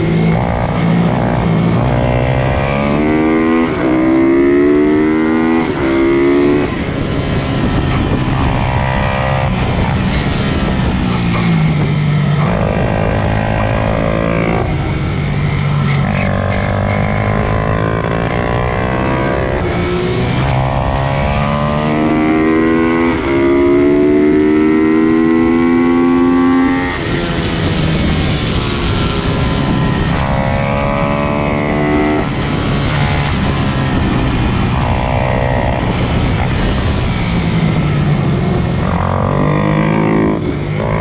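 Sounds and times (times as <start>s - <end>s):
pit bike engines revving: 0.0s - 41.0s.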